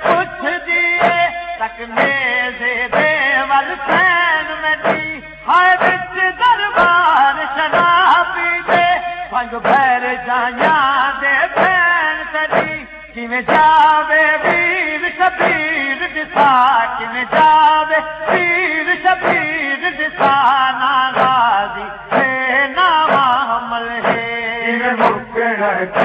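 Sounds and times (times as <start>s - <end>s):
chest-beating thumps: 0.0s - 26.0s
man singing a lament: 0.0s - 26.0s.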